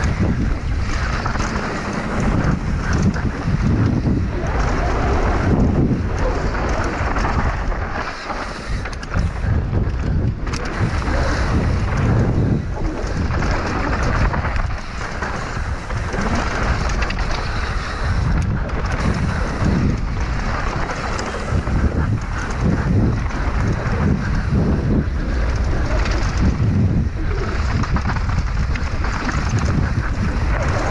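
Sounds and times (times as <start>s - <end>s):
bike tyres rolling on dirt: 0.0s - 30.9s
wind rushing over microphone: 0.0s - 30.9s.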